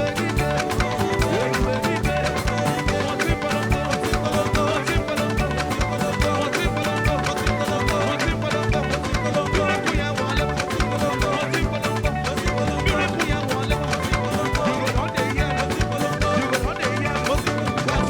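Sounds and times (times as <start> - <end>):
gospel band playing: 0.0 - 18.0
steady drum beat: 0.0 - 18.0.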